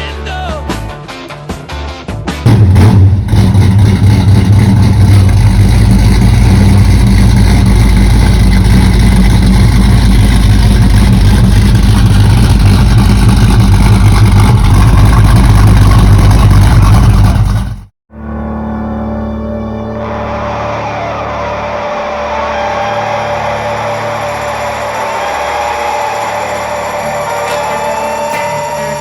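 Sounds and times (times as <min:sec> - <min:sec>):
car engine running loudly: 0:02.5 - 0:17.9, 0:20.0 - 0:29.0.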